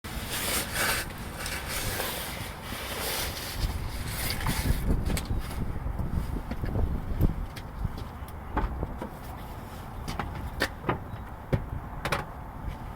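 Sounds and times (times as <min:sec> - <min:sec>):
wind rushing over microphone: 0:00.1 - 0:12.9.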